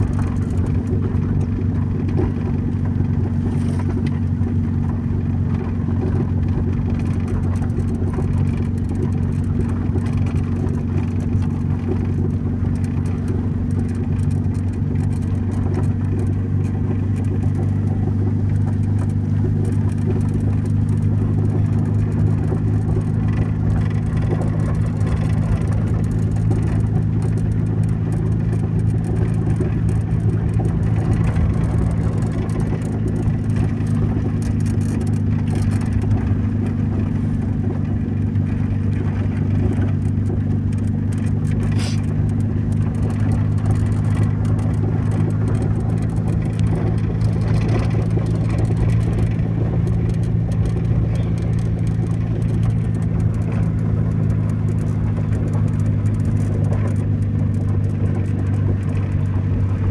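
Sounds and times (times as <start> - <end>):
car engine and road drone: 0.0 - 59.9.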